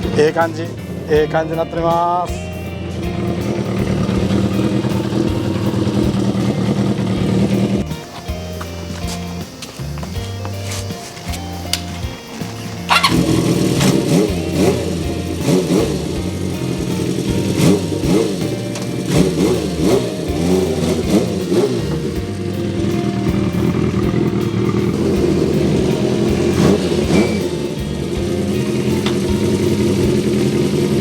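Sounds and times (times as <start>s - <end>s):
motorcycle engine revving: 0.0s - 8.1s, 11.3s - 31.0s.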